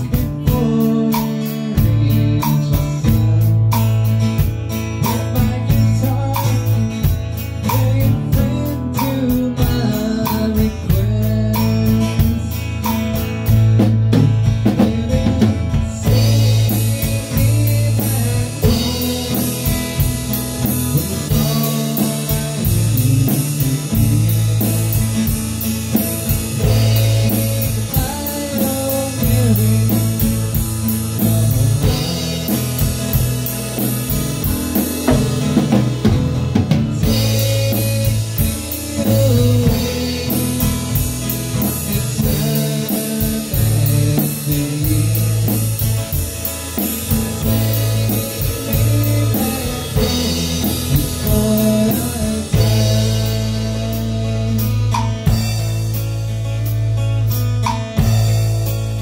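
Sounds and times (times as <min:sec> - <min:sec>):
person singing: 0:00.0 - 0:04.2, 0:05.0 - 0:13.0, 0:14.7 - 0:55.6
acoustic guitar strumming: 0:00.0 - 0:59.0
bass line: 0:00.0 - 0:59.0
drum kit with cymbals: 0:00.0 - 0:59.0.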